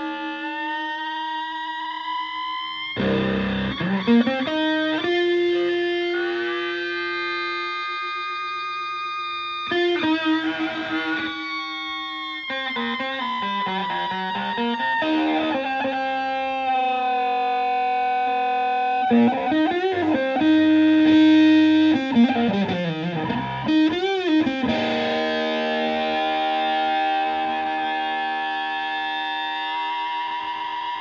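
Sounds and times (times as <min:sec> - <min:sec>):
fuzzed electric guitar: 0:00.0 - 0:31.0.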